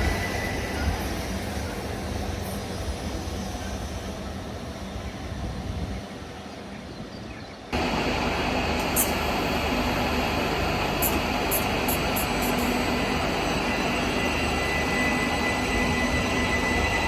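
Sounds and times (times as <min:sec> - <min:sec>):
electric train rushing past: 0:00.0 - 0:05.5, 0:07.8 - 0:17.0.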